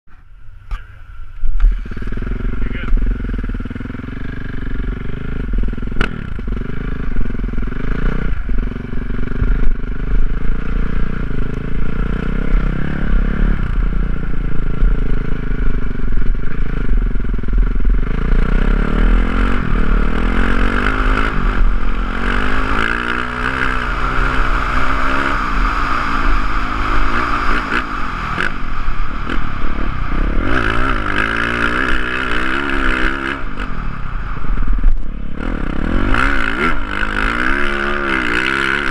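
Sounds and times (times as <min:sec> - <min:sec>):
dirt bike engine revving: 0:01.5 - 0:38.9.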